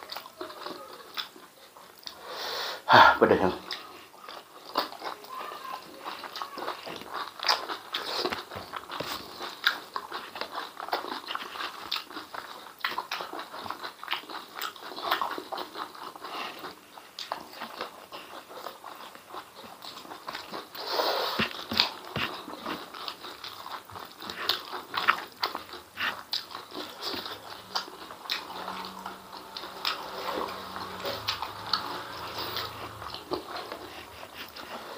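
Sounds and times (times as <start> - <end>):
person chewing with wet clicks: 0.0 - 2.2, 3.6 - 34.9.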